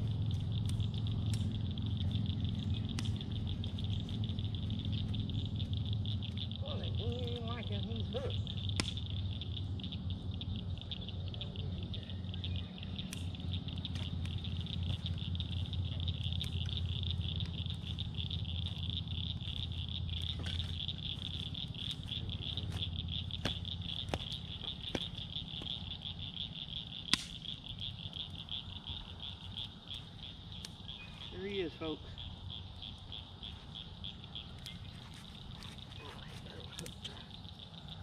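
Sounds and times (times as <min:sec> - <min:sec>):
wood fire crackling and popping: 0:00.0 - 0:11.0, 0:11.8 - 0:38.0
high trilling chorus: 0:00.0 - 0:38.0
low hum: 0:00.0 - 0:38.0.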